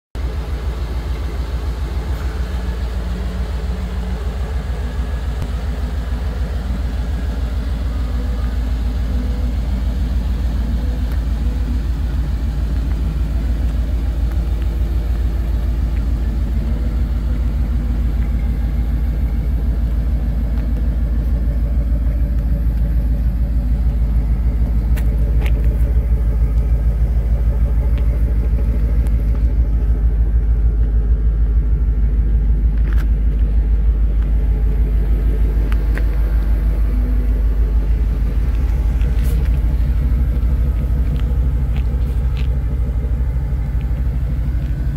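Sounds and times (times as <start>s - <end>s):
pickup truck engine idling: 0.2s - 44.9s.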